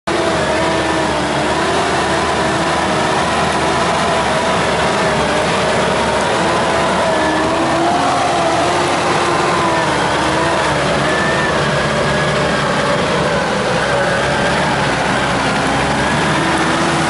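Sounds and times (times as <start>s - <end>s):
vehicle engine with high whine: 0.0s - 17.0s.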